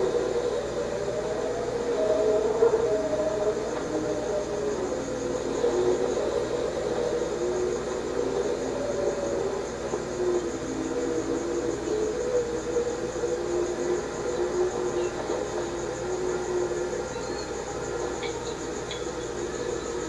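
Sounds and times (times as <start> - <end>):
steady hiss: 0.0 - 20.0
wavering moaning tones: 0.0 - 20.0.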